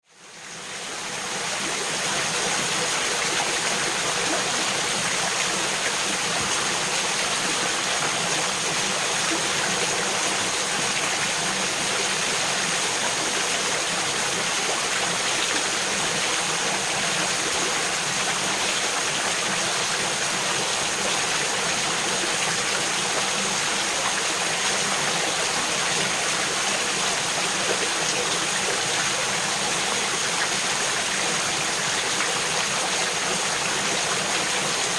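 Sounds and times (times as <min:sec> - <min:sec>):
creek babbling over rocks: 0:00.1 - 0:34.9.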